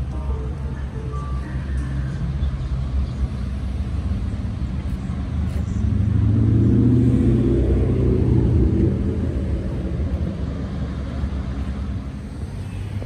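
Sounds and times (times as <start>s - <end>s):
engine passing by: 1.5s - 13.0s.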